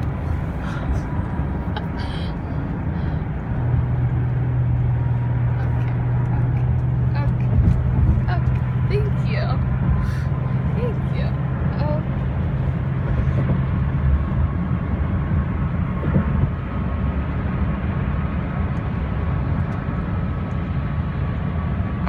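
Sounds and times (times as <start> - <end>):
car rumble from inside cabin: 0.0 - 22.0.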